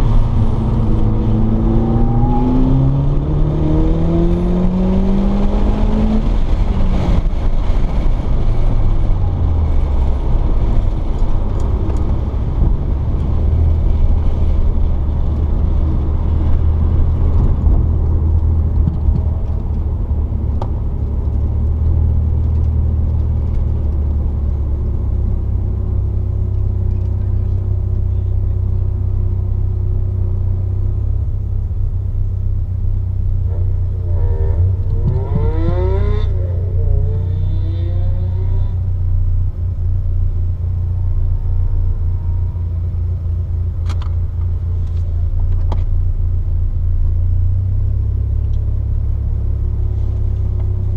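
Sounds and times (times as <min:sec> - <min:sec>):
car engine revving down and idling: 0:00.0 - 0:50.9.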